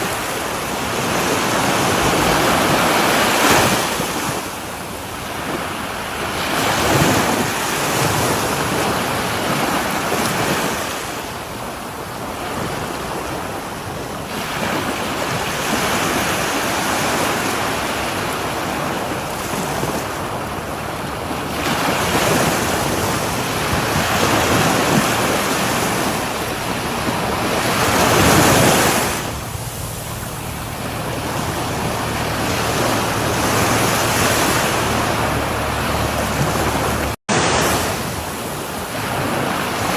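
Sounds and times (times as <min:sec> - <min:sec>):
ocean waves breaking on shore: 0:00.0 - 0:39.9
wind on microphone: 0:00.0 - 0:39.9.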